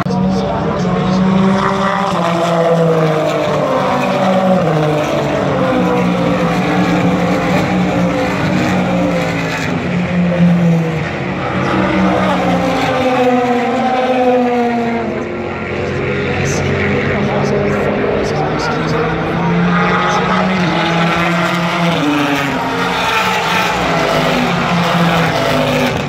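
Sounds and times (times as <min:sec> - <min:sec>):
distant racing engines: 0:00.0 - 0:26.0
racing cars passing at speed: 0:00.0 - 0:26.0.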